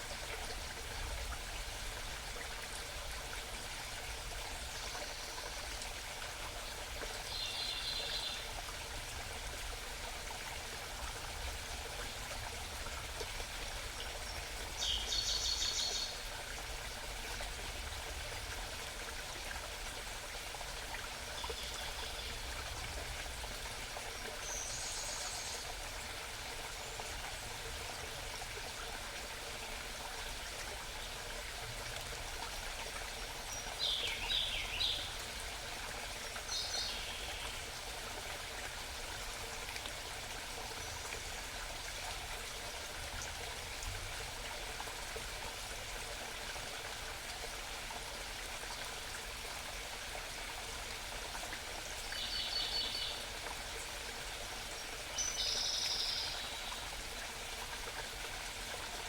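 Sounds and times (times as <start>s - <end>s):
mountain stream babbling: 0.0s - 59.0s.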